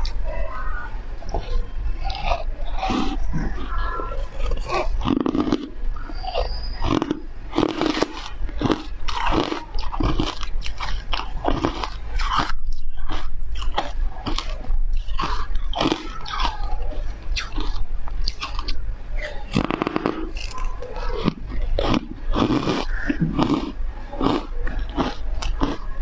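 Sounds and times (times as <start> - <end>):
ice crunching and chewing: 1.3 - 26.0.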